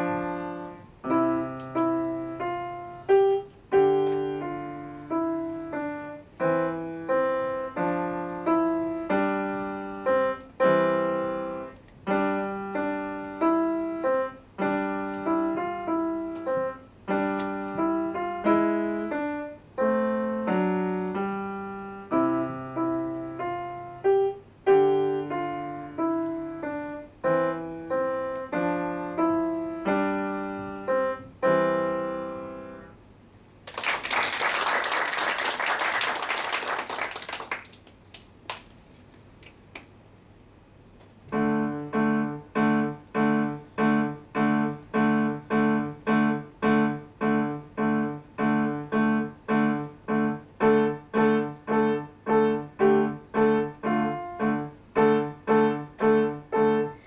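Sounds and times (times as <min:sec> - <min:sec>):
grand piano playing: 0:00.0 - 0:33.0, 0:41.3 - 0:57.0.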